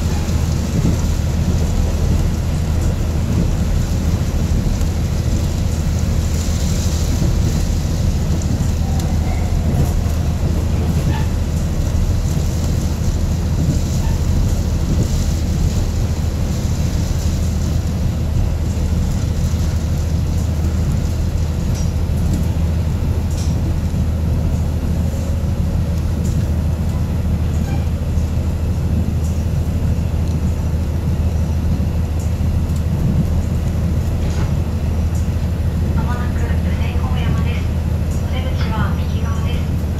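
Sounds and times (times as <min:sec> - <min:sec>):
diesel engine drone: 0:00.0 - 0:39.9
wheels rumbling on rails: 0:00.0 - 0:39.9.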